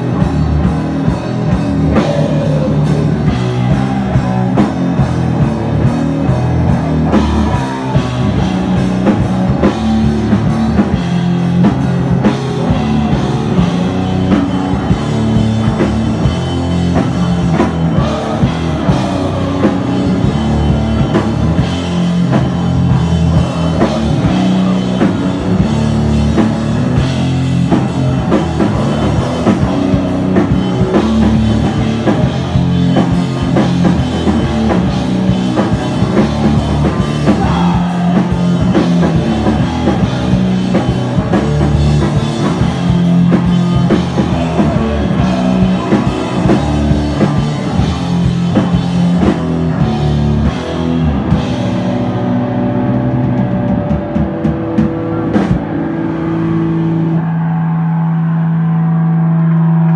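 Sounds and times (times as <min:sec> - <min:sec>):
distorted guitar riffs: 0:00.0 - 0:59.9
pounding drum kit: 0:00.0 - 0:59.9.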